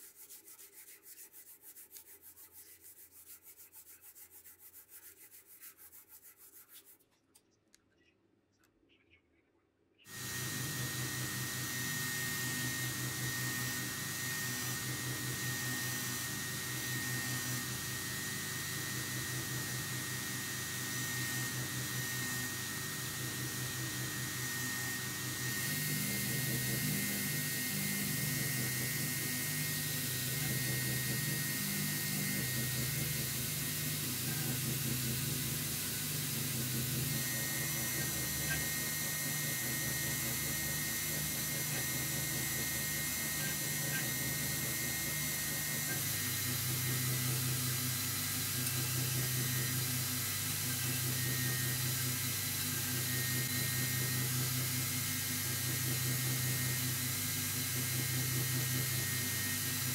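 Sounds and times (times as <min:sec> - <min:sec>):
belt grinder grinding blade: 0:10.1 - 0:59.9.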